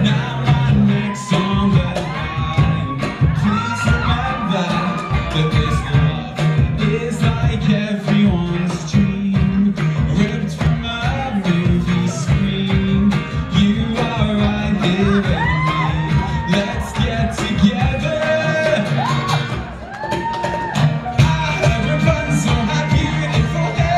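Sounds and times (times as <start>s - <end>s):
person singing lead vocals: 0.0s - 19.7s, 20.3s - 23.9s
live band playing pop song: 0.0s - 23.9s.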